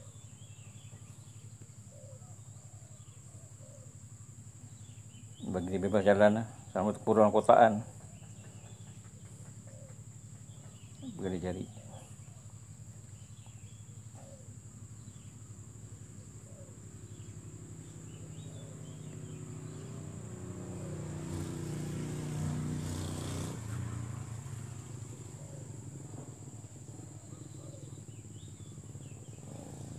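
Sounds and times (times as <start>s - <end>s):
engine humming: 0.0s - 29.9s.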